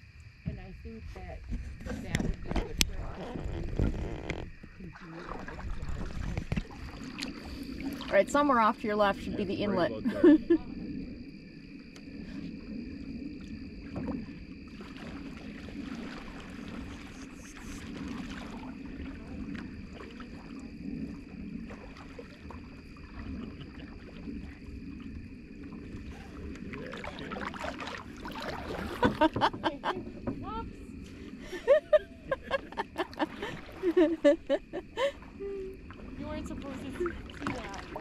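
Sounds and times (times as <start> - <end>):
paddle strokes in water: 0.5 - 38.0.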